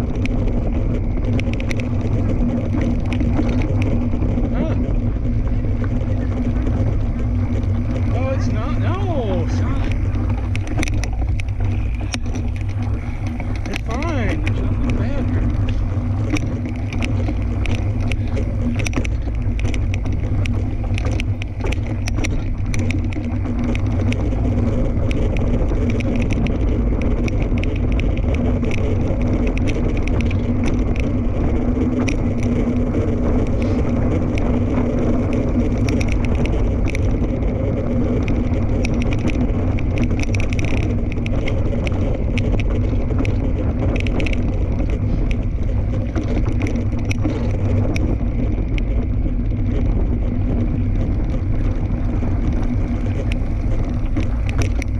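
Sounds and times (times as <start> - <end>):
bike clicks and rattles: 0.0 - 54.9
wind rumble on microphone: 0.0 - 54.9.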